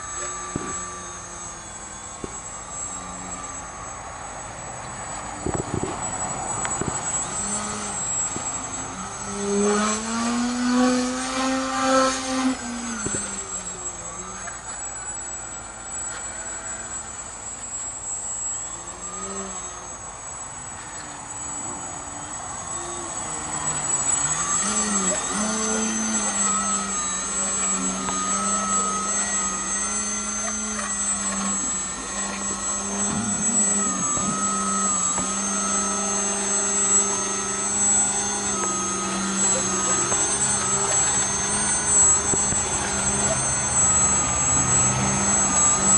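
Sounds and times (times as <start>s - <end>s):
electric motor and propeller whine: 0.0s - 45.9s.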